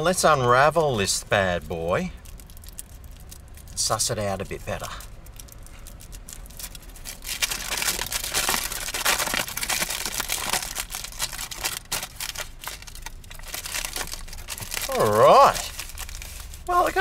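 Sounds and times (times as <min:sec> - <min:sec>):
foil wrapper crinkling: 0:01.7 - 0:17.0.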